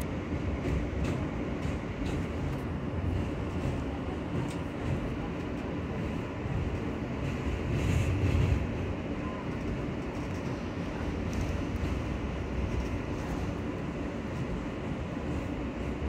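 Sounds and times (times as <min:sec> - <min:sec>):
subway car rumbling on track: 0:00.0 - 0:16.0.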